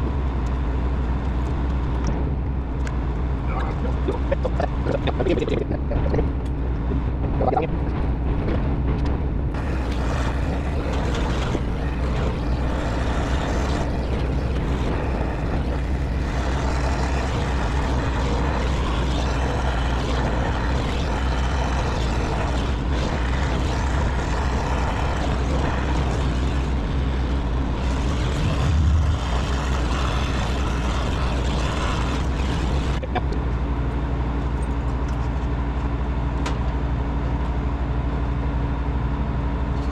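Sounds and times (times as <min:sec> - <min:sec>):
constant noisy wash: 0:00.0 - 0:35.2
low machine hum: 0:00.0 - 0:39.9.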